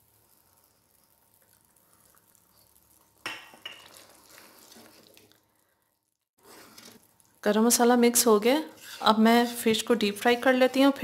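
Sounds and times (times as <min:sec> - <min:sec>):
gravy bubbling in a pan: 0:00.0 - 0:11.0.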